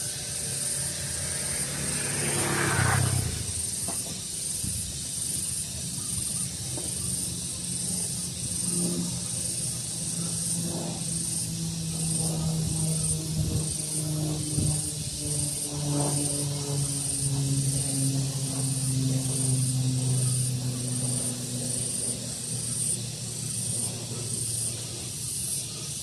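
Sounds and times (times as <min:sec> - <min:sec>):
pulsing high-pitched trill: 0:00.0 - 0:26.0.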